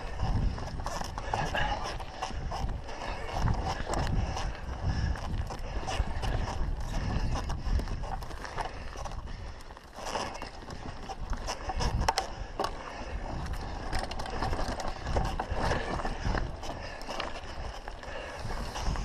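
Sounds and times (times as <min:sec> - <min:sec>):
bike rattling and clicking: 0:00.0 - 0:19.0
bike tyres on dirt and stones: 0:00.0 - 0:19.0.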